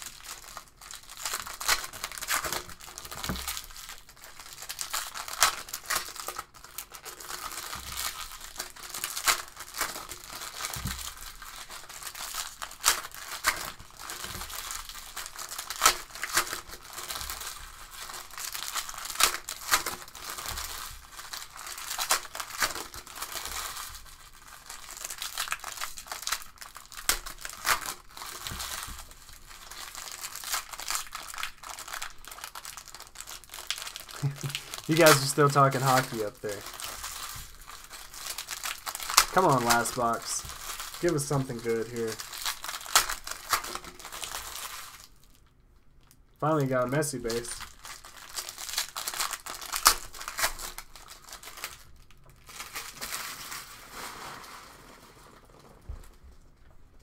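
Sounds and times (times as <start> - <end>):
foil wrappers crinkling and tearing: 0.0 - 56.7.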